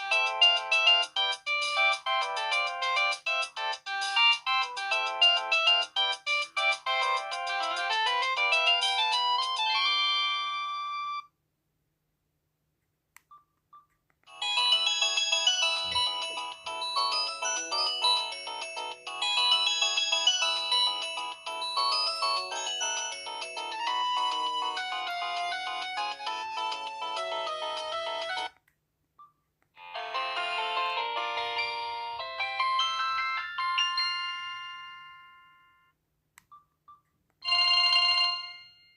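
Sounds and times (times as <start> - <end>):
polyphonic phone ringtone: 0.0 - 11.3, 14.3 - 28.5, 29.2 - 35.9, 36.5 - 38.9.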